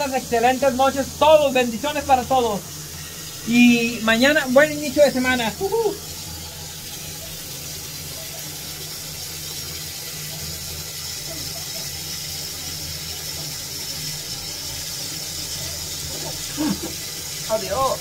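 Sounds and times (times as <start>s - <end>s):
bubbles fizzing: 0.0s - 18.0s.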